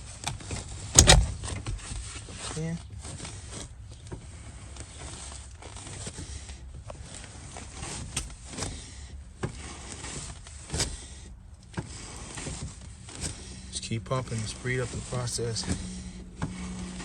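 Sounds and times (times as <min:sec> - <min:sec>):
brake pedal knocks and creaks: 0:00.0 - 0:17.0
low steady rumble: 0:00.0 - 0:17.0.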